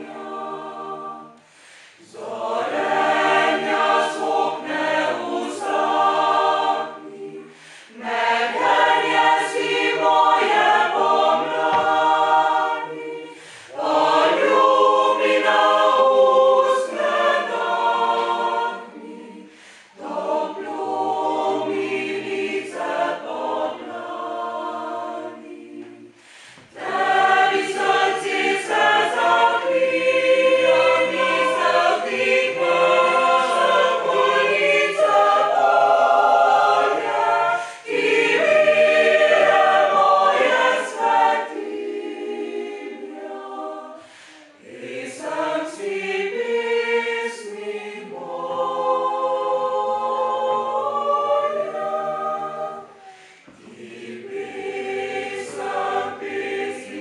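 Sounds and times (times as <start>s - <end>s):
mixed choir singing a lullaby: 0.0s - 57.0s.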